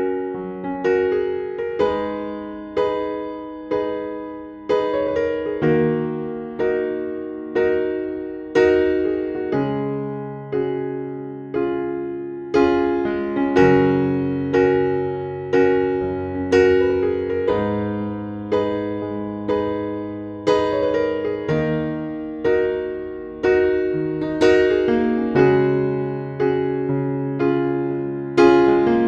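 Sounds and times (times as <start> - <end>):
slow electric piano chords: 0.0 - 29.0.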